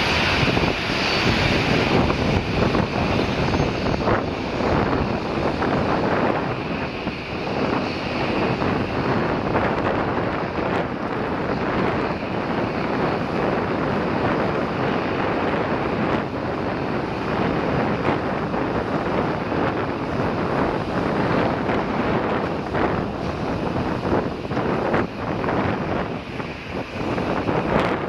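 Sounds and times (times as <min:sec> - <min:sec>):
jet engines rushing rumble: 0:00.0 - 0:28.0
wind buffeting microphone: 0:00.0 - 0:28.0.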